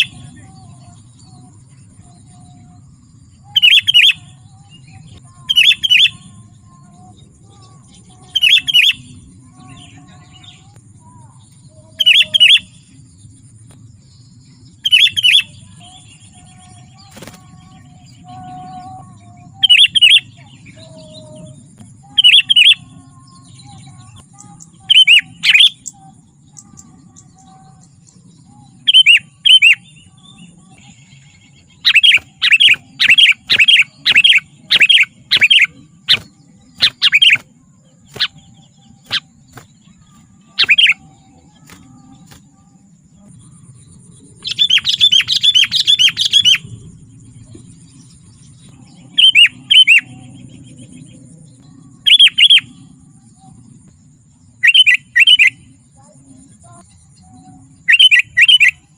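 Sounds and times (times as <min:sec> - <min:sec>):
bird chirping: 0:00.0 - 0:58.9.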